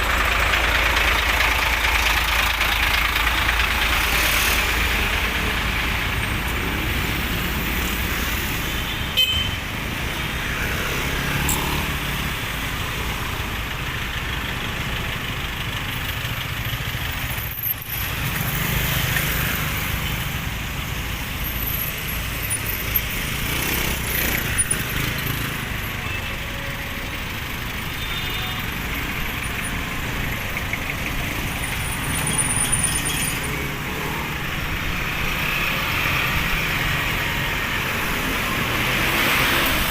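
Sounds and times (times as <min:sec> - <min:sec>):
cars and motorcycles passing: 0:00.0 - 0:39.9.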